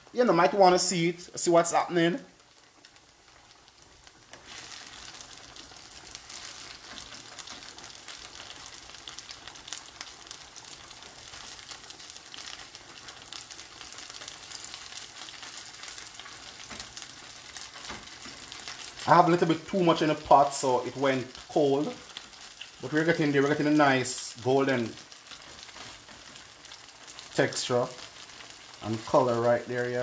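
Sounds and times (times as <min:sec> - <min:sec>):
gnocchi sizzling in a frying pan: 0:00.0 - 0:30.0
spatula turning food in pan: 0:02.3 - 0:30.0.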